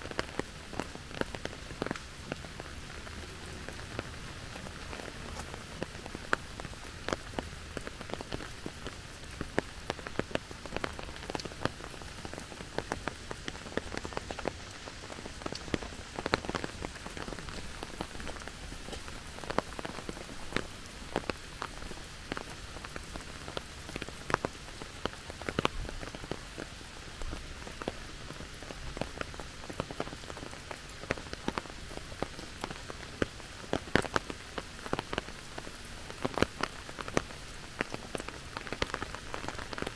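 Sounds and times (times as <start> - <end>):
sharp raindrops ticking: 0.0 - 39.9
steady rain hiss: 0.0 - 39.9.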